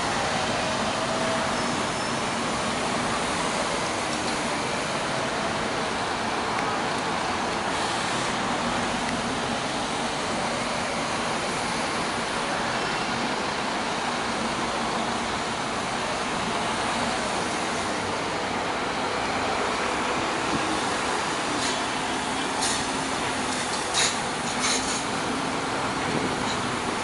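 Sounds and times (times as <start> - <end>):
buses driving past: 0.0 - 27.0.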